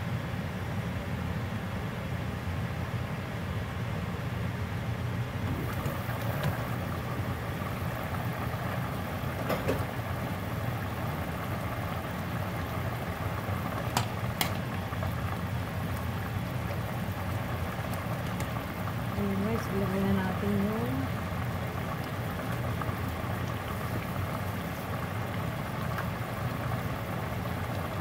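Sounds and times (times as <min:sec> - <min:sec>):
stew bubbling in a pot: 0:05.4 - 0:28.0.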